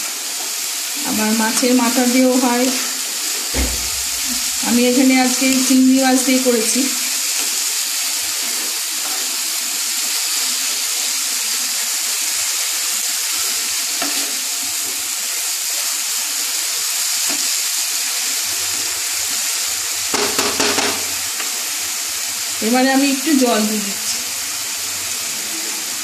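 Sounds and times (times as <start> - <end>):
vegetables sizzling in pan: 0.0 - 26.0.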